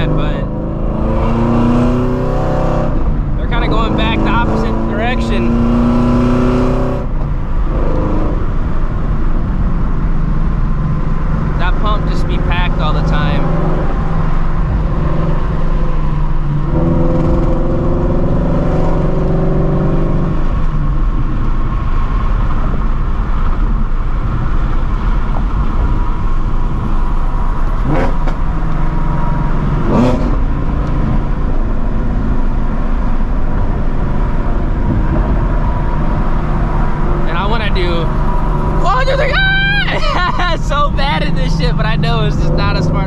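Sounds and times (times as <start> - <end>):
car exhaust at steady cruise: 0.0 - 43.0.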